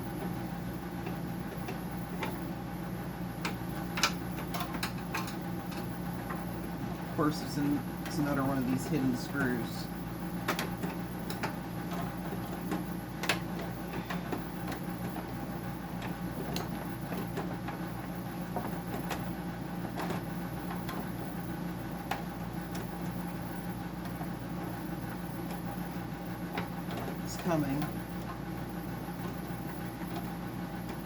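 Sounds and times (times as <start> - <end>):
low machine hum: 0.0 - 31.0.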